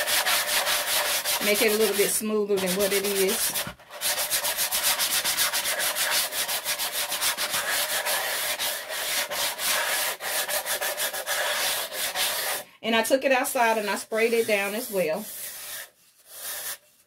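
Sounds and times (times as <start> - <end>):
sanding sponge rubbing: 0.0 - 12.6, 13.6 - 16.8.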